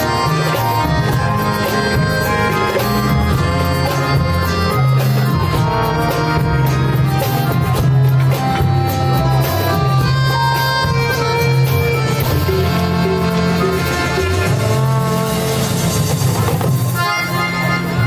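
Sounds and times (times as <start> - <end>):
live band accompaniment: 0.0 - 18.0
piano accordion melody: 0.0 - 18.0
pulsing bass: 0.0 - 18.0.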